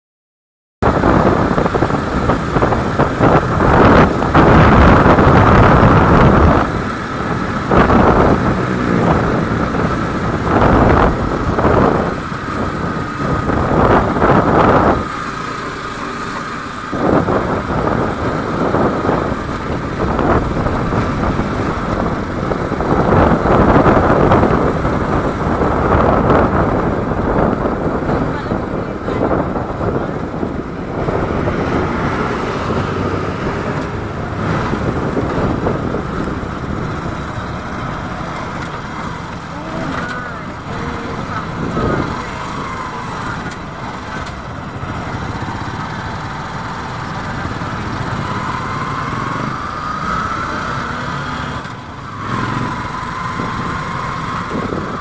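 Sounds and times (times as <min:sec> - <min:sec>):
vehicle engine and road noise: 0:00.8 - 0:55.0
wind buffeting microphone: 0:00.8 - 0:55.0.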